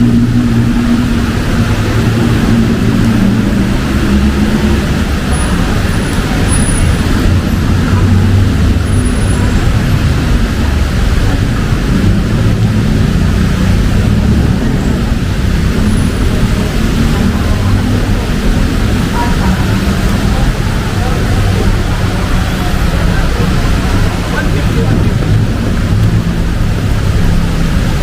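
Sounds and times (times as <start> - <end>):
car engines rumbling: 0.0 - 28.0
rain and wet tyres hissing: 0.0 - 28.0.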